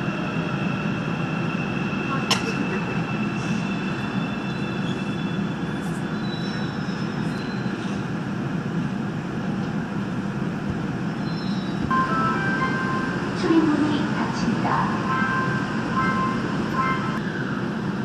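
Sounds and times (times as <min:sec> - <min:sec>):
train wheels and motors running: 0:00.0 - 0:18.0.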